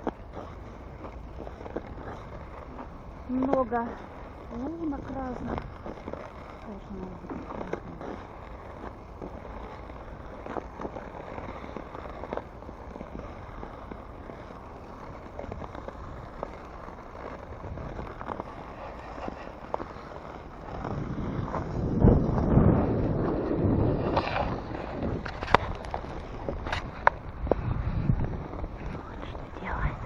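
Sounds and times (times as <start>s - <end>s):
ice skates scraping on ice: 0.0s - 30.0s
wind buffeting microphone: 0.0s - 30.0s.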